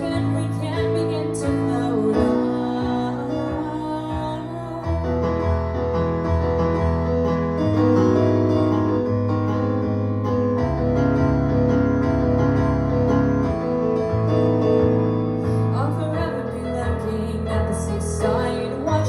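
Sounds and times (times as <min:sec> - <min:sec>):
bass notes: 0:00.0 - 0:19.0.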